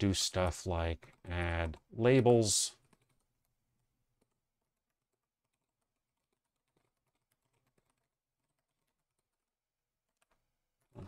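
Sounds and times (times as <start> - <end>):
faint keyboard typing: 0.4 - 11.0.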